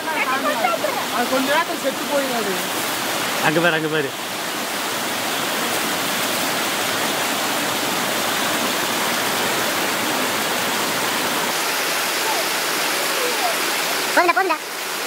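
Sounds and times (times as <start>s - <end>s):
water cascading over a weir: 0.0s - 15.0s.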